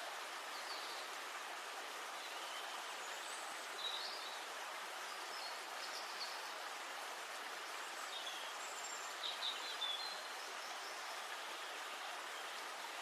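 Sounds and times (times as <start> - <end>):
river and forest ambience: 0.0 - 13.0.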